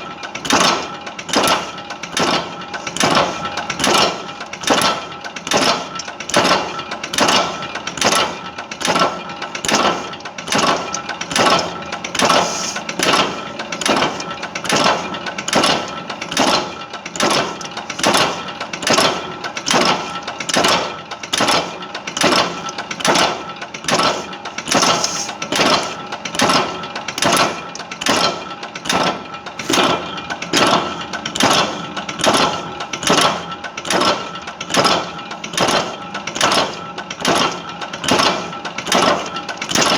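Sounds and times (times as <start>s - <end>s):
machine clattering: 0.2s - 39.9s.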